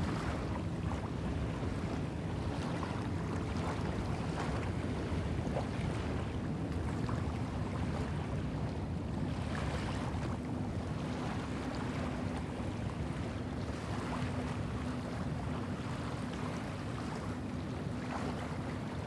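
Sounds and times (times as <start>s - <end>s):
small waves lapping on shore: 0.0s - 19.0s
wind rumble on microphone: 0.0s - 19.0s.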